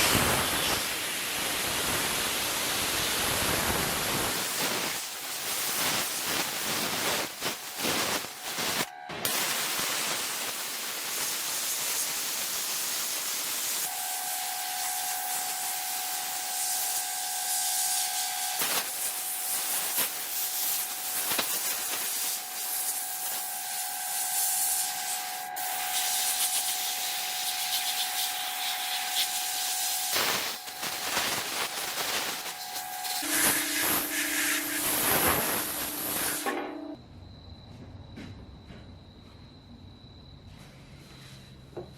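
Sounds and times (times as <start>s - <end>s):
abrasive hiss on metal: 0.0s - 36.6s.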